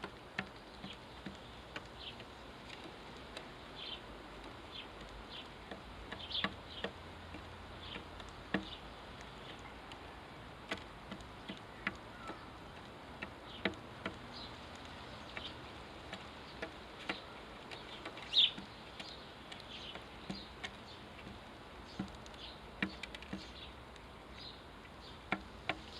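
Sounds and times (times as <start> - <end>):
sharp clicks and taps: 0.0 - 3.5, 4.4 - 25.9
sparrows chirping: 0.0 - 25.9.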